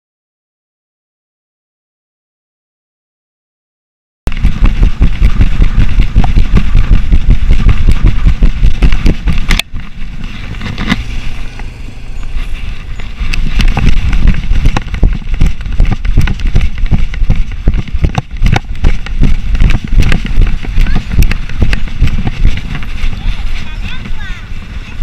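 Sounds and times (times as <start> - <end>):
camera jolting with strides: 4.3 - 25.0
wind buffeting a camera: 4.3 - 25.0.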